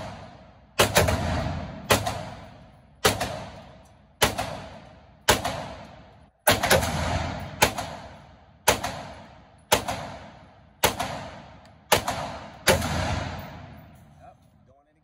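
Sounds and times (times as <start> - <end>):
rifle shots echoing indoors: 0.0 - 14.2.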